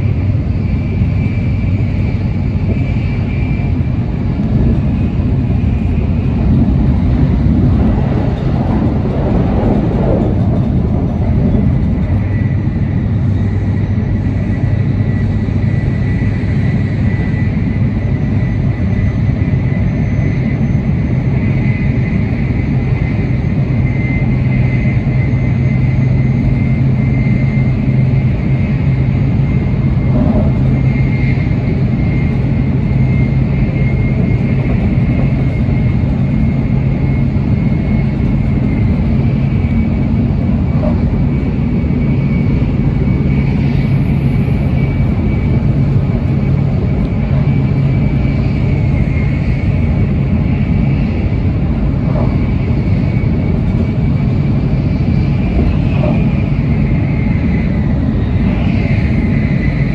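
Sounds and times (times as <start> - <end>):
constant high whine: 0.0 - 59.9
train cabin rumble: 0.0 - 59.9.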